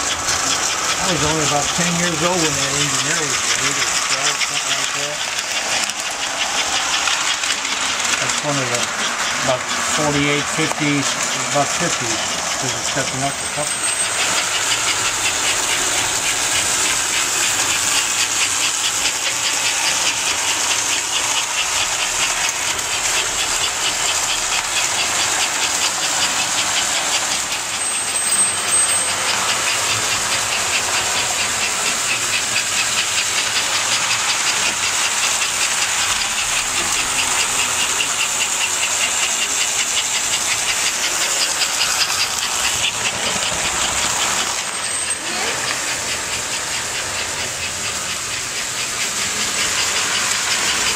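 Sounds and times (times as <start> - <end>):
model steam locomotive chuffing: 0.0 - 50.9
motor and wheels whirring: 0.0 - 50.9.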